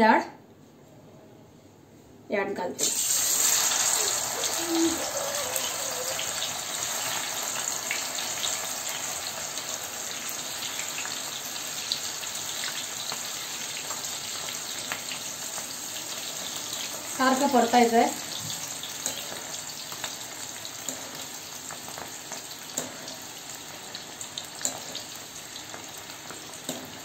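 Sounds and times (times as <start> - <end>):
lentils sizzling in hot oil: 2.8 - 27.0.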